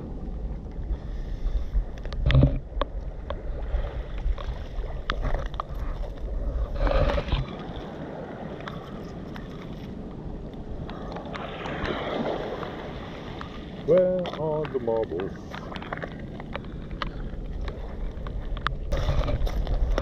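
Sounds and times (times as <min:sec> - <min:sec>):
steady outdoor hiss: 0:00.0 - 0:20.0
wind buffeting microphone: 0:00.0 - 0:20.0.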